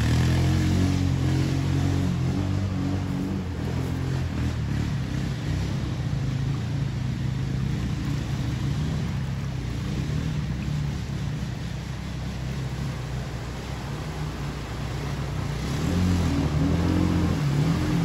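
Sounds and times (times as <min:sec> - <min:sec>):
atv engine rumbling: 0:00.0 - 0:18.0
fast-flowing floodwater: 0:00.0 - 0:18.0.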